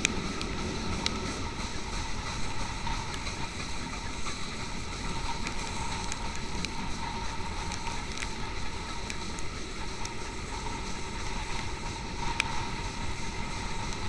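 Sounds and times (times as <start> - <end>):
sharp ticks: 0.0 - 14.0
steam locomotive rushing: 0.0 - 14.0.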